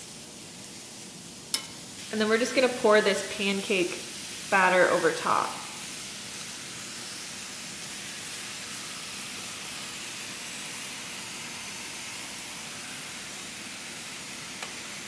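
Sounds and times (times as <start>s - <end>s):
batter sizzling on a griddle: 0.0s - 15.0s.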